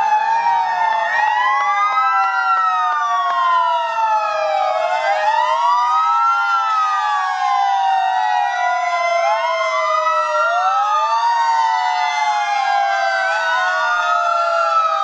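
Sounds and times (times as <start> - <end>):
fire engine sirens wailing: 0.0 - 15.0.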